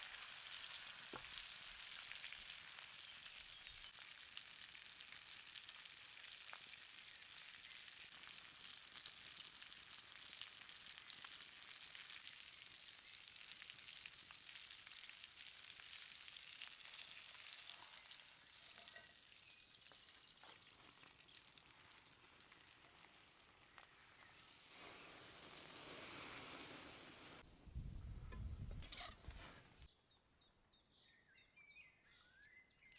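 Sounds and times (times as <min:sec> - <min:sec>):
fat crackling and popping: 0:00.0 - 0:26.8, 0:27.8 - 0:29.9
steak sizzling: 0:00.0 - 0:27.4, 0:28.3 - 0:29.9.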